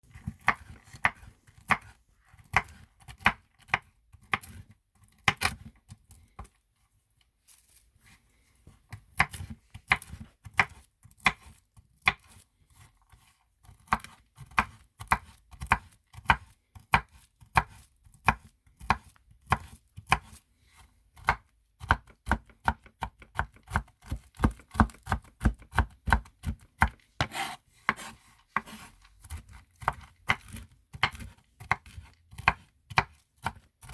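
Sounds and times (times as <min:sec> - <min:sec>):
knife chopping on cutting board: 0:00.1 - 0:05.7, 0:09.1 - 0:12.4, 0:13.2 - 0:20.4, 0:21.2 - 0:33.9.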